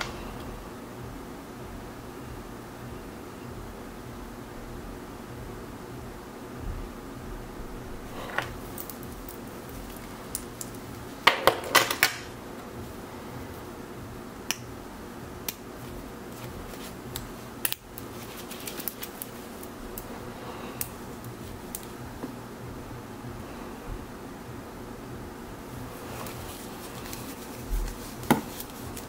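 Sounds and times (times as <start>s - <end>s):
steady low hiss: 0.0s - 29.0s.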